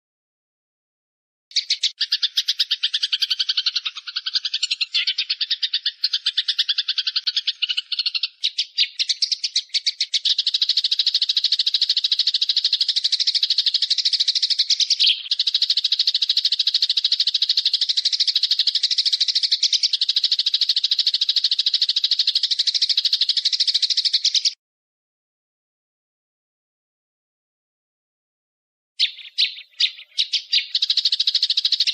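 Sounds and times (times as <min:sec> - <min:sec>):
songbird rapid high trill: 0:01.5 - 0:24.6, 0:29.0 - 0:31.9.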